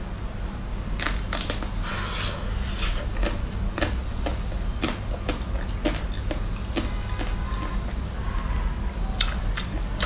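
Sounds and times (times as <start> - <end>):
chocolate coating crunching: 0.9 - 1.8, 2.7 - 10.0.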